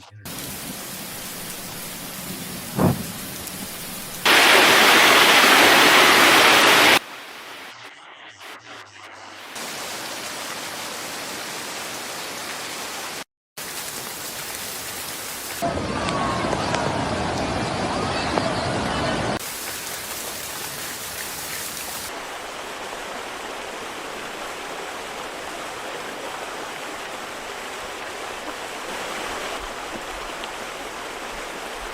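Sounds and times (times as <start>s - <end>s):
heavy rain hissing: 0.2s - 16.4s, 17.1s - 31.9s.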